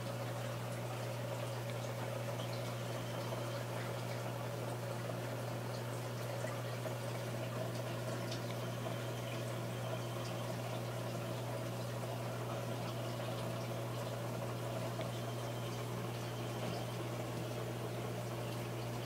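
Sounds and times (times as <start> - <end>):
aquarium pump humming: 0.0 - 19.0
water bubbling and trickling: 0.0 - 19.0.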